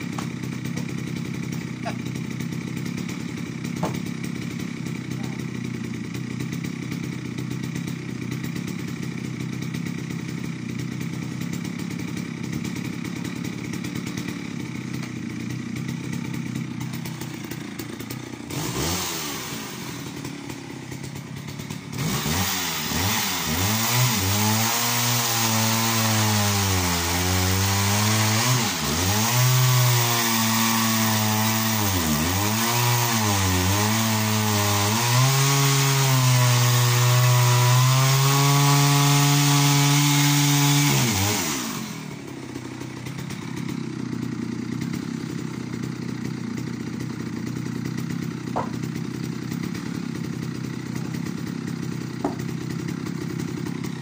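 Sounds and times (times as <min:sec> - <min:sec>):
chainsaw cutting log: 0:00.0 - 0:54.0
chainsaw engine revving: 0:00.0 - 0:54.0.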